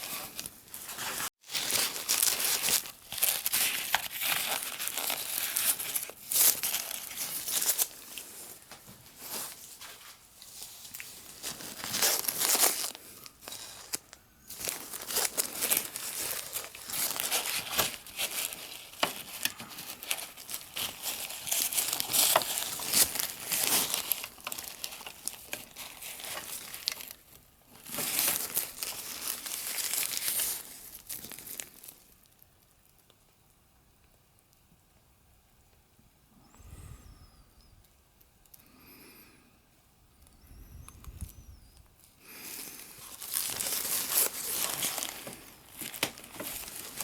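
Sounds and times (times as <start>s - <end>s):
crinkly material rustling: 0.0s - 33.2s, 41.1s - 47.0s.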